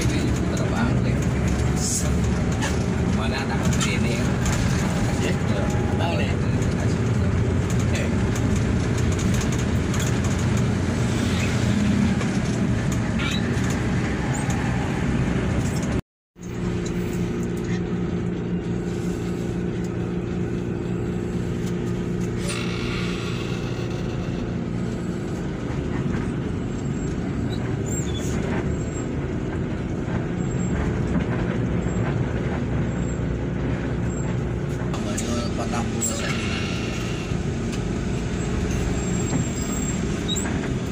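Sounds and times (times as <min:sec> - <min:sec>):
bus engine drone: 0:00.0 - 0:40.9
road and traffic noise: 0:00.0 - 0:40.9.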